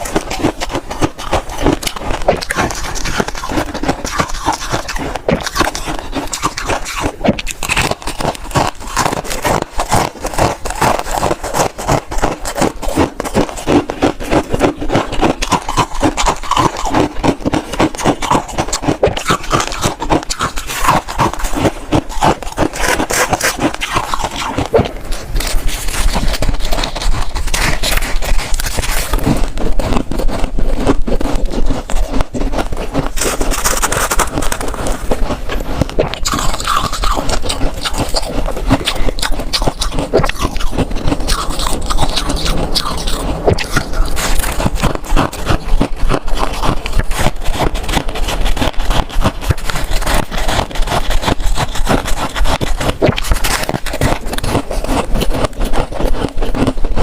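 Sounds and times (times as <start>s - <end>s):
frost crunching and crackling: 0.0s - 57.0s.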